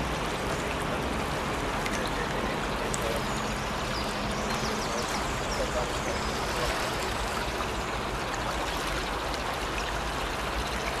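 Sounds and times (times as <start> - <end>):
brook babbling: 0.0 - 11.0.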